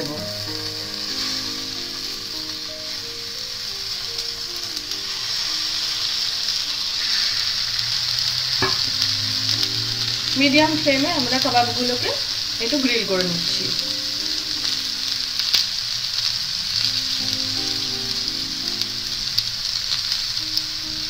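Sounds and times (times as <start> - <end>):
kebabs sizzling in hot oil: 0.0 - 21.0.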